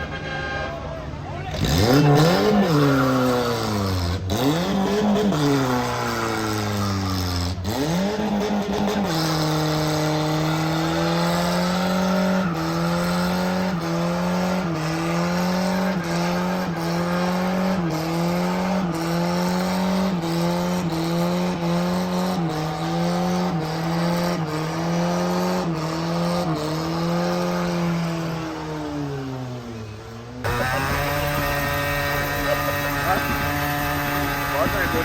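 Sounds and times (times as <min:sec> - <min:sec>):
car engine revving high: 0:01.5 - 0:35.0.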